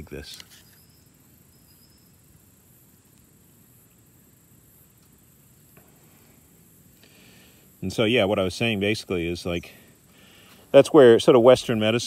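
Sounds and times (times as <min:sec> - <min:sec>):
high insect chorus: 0:00.0 - 0:12.0.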